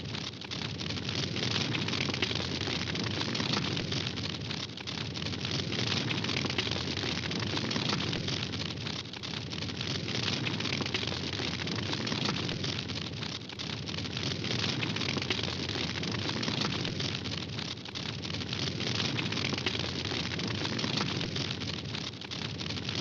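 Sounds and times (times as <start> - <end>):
campfire crackling: 0.0 - 23.0
flames roaring steadily: 0.0 - 23.0.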